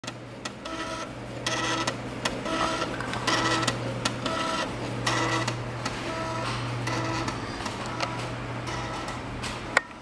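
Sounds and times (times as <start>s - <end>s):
floppy drive stepper buzzing: 0.0s - 9.5s
steady low hum: 0.1s - 10.0s.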